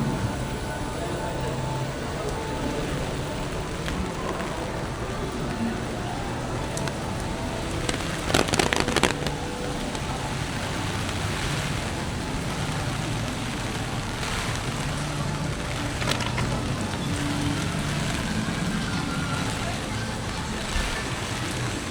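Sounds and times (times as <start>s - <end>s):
car traffic on wet street: 0.0s - 21.9s
steady rain: 0.0s - 21.9s.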